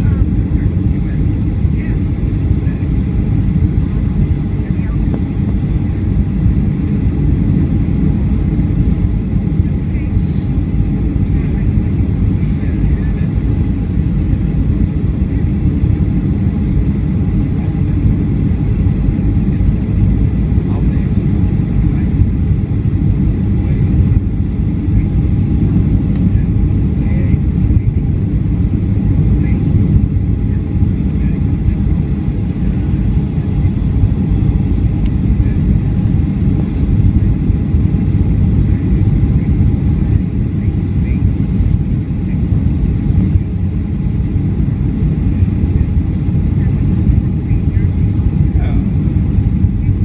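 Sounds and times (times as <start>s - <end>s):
airliner cabin rumble: 0.0s - 50.0s
faint steady hum: 0.0s - 50.0s.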